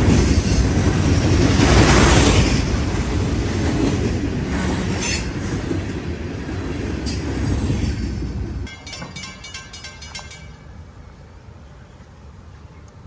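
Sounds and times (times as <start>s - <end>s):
train wheels rumbling on rail: 0.0s - 10.8s.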